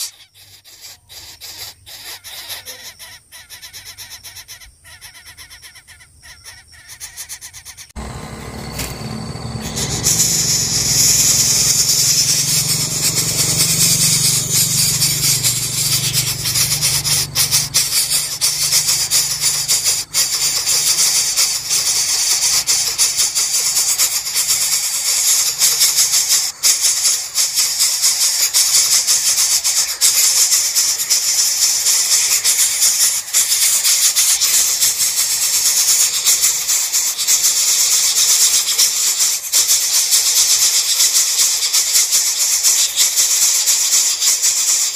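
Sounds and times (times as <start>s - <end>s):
nestlings begging with rasping hiss: 0.0s - 44.9s.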